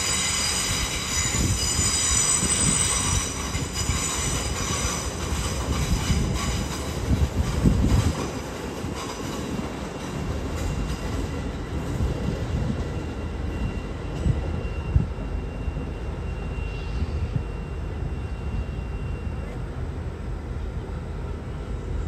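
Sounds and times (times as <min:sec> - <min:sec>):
train rail noise: 0:00.0 - 0:22.0.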